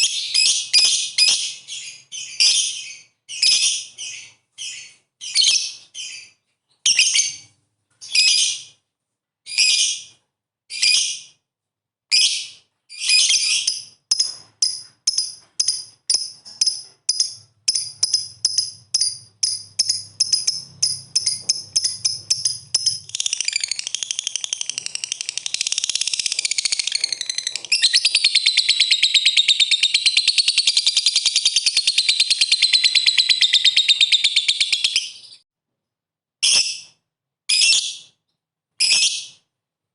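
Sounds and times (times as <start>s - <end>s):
lovebird chirping and trilling: 0.0s - 8.8s, 9.5s - 11.4s, 12.1s - 35.4s, 38.8s - 39.4s.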